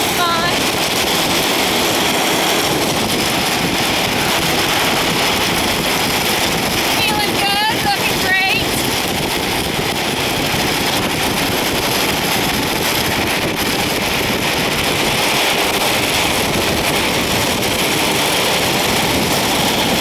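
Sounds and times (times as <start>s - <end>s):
skate wheels rolling on asphalt: 0.0s - 20.0s
wind on microphone: 0.0s - 20.0s.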